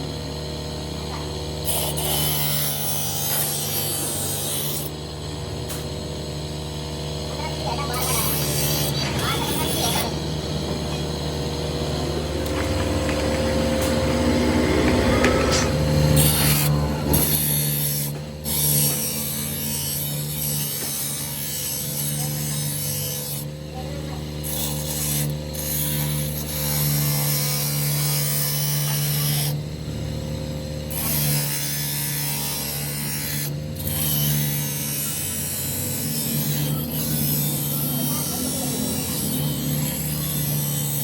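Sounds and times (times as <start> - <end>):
workshop machinery humming: 0.0 - 41.0.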